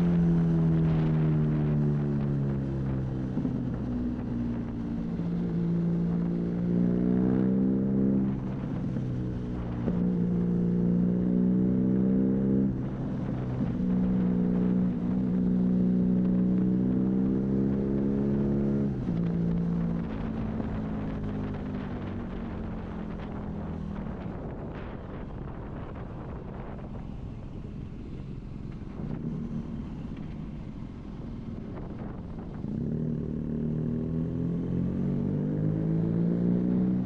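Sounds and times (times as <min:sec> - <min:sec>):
motorcycle engine accelerating: 0:00.0 - 0:37.0
wind noise: 0:00.0 - 0:37.0.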